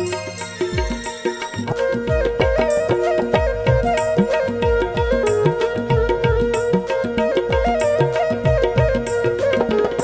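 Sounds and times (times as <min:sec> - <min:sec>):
music with drum rhythm: 0:00.0 - 0:10.0.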